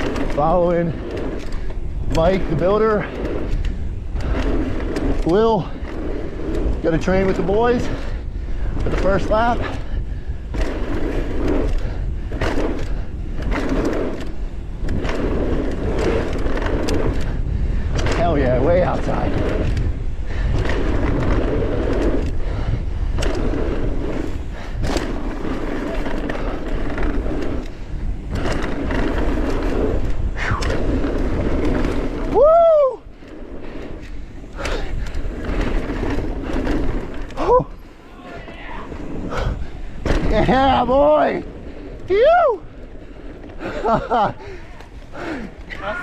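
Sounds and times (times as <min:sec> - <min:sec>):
bike rattling over bumps: 0:00.0 - 0:46.0
bike tyres rolling on dirt: 0:00.0 - 0:46.0
wind rumble on microphone: 0:00.0 - 0:46.0.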